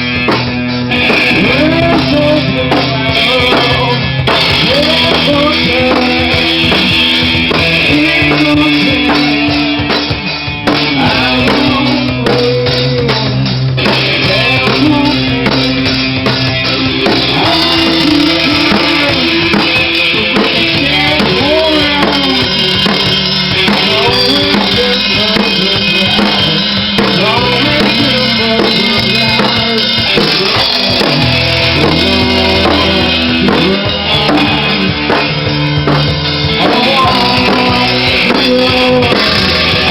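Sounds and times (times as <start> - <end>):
drum kit steady beat: 0.0 - 39.9
rock band playing live: 0.0 - 39.9.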